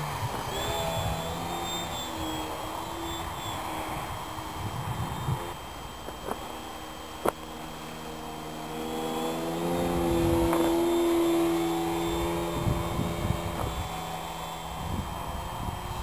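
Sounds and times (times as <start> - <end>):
model plane propeller whining: 0.0 - 16.0.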